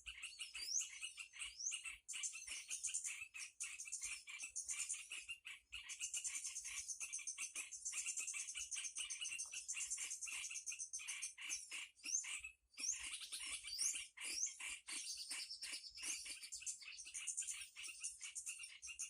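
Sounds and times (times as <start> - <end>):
fast repeated clicking calls: 0.0 - 19.0.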